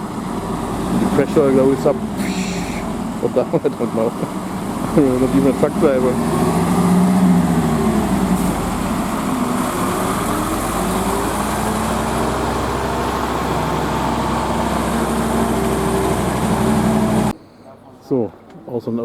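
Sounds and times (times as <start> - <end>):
diesel truck engine running: 0.0 - 17.3.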